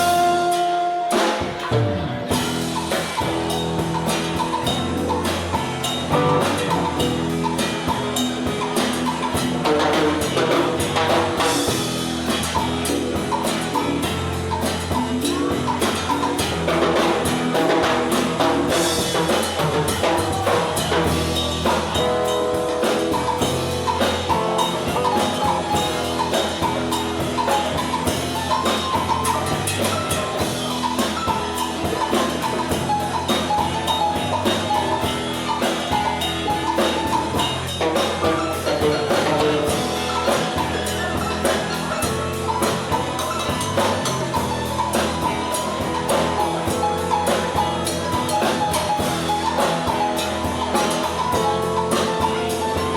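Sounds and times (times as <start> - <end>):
drum kit beat: 0.0 - 52.9
live band music: 0.0 - 52.9.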